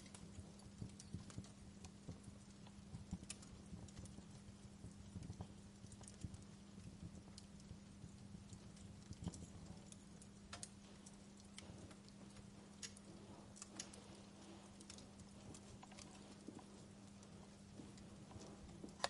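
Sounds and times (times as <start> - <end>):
low steady hum: 0.0 - 19.0
wood fire crackling: 0.0 - 19.0.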